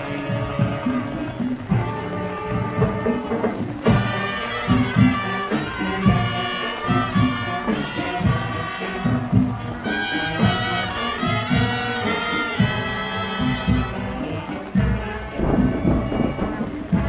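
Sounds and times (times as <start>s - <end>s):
brass instruments playing: 0.0s - 17.0s
marching drum beat: 0.0s - 17.0s.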